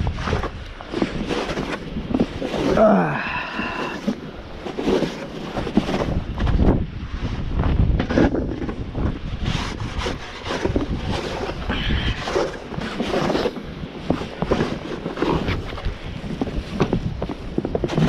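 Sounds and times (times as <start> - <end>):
snow crunching and scraping: 0.0 - 18.0
wind buffeting microphone: 0.0 - 18.0.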